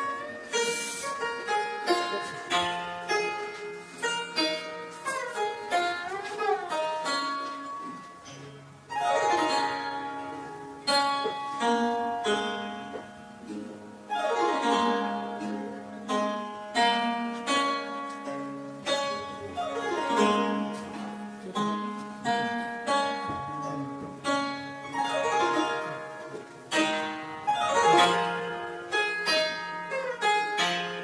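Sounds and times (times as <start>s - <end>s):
plucked zither notes: 0.0s - 31.0s
zither glissandi: 0.0s - 31.0s.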